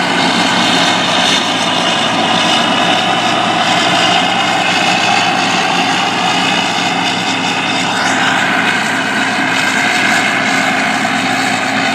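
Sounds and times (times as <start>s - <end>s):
harvest machinery drone: 0.0s - 11.9s
rising machine whine: 0.0s - 11.9s.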